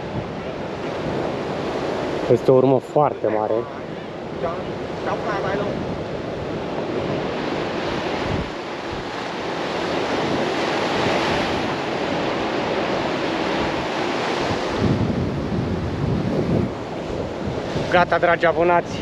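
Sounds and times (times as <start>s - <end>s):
sea surf washing: 0.0s - 19.0s
wind buffeting microphone: 0.0s - 19.0s.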